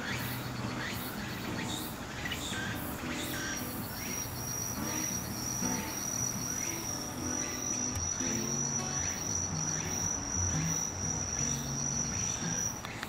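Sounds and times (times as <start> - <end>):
high-pitched insect trill: 0.0 - 13.0
insects pulsed trill: 0.0 - 13.0.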